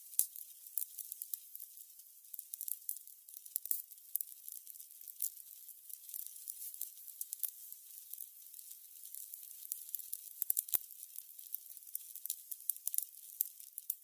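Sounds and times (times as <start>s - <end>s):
candles crackling: 0.0s - 14.0s.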